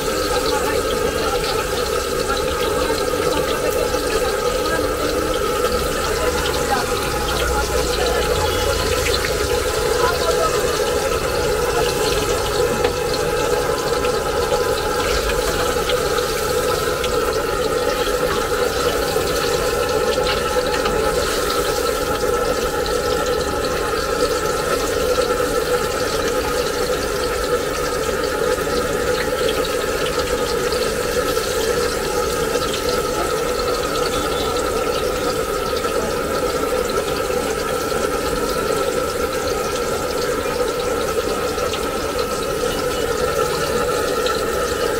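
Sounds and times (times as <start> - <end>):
oil sizzling and bubbling: 0.0 - 44.9.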